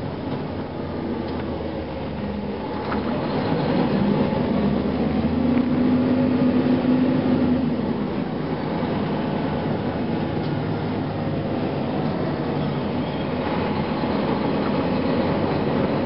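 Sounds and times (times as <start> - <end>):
bus diesel engine drone: 0.0 - 16.0
road noise: 0.0 - 16.0.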